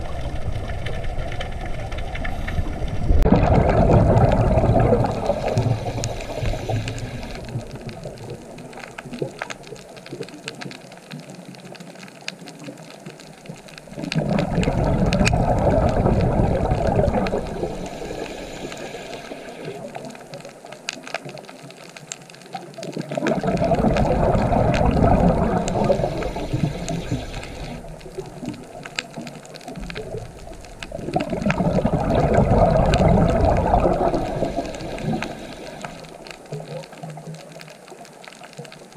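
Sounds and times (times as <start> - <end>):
faint clicking: 0.0 - 38.9
underwater bubbles rushing: 0.0 - 38.9.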